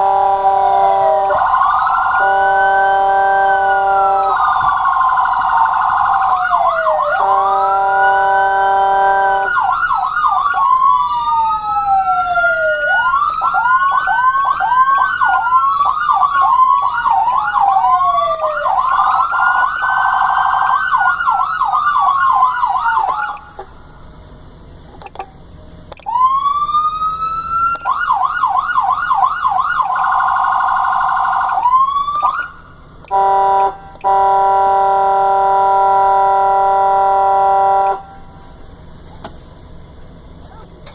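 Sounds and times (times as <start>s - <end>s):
harsh horn-like siren tone: 0.0s - 23.6s, 26.0s - 38.4s
electronic sirens wailing and yelping: 0.0s - 23.8s, 25.9s - 38.4s.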